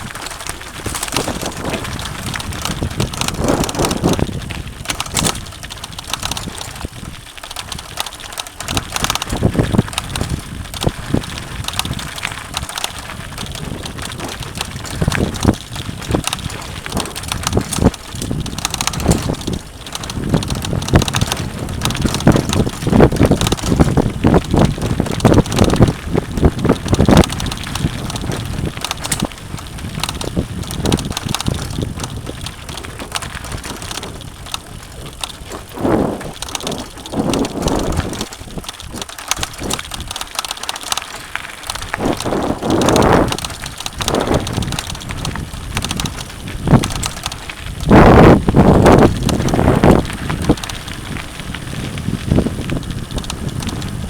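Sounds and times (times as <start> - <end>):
bike clattering over rocks: 0.0 - 54.0
wind buffeting microphone: 0.0 - 54.0.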